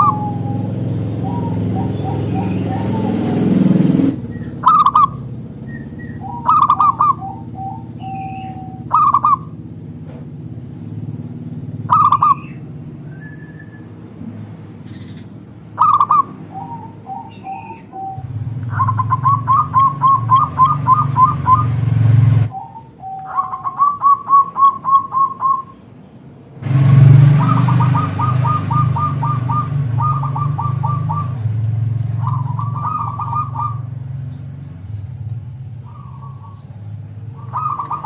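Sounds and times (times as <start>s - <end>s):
dove cooing: 0.0s - 9.6s, 11.8s - 12.6s, 14.9s - 25.8s, 26.7s - 34.4s, 35.8s - 38.0s.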